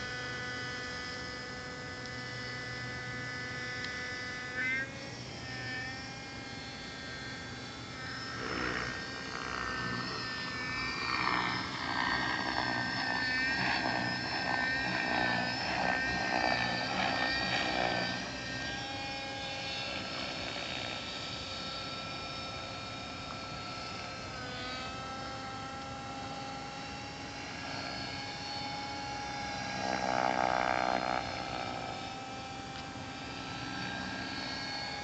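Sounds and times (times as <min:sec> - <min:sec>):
model helicopter engine whine: 0:00.0 - 0:35.0.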